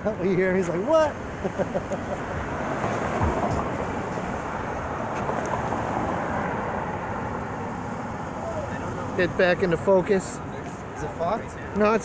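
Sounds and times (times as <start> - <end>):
road traffic rushing: 0.0 - 12.0.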